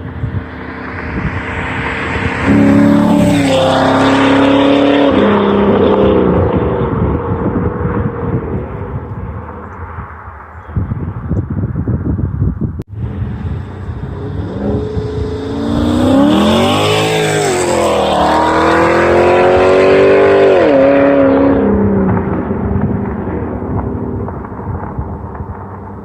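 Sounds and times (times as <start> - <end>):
car engine accelerating: 0.0 - 9.8, 13.0 - 25.9.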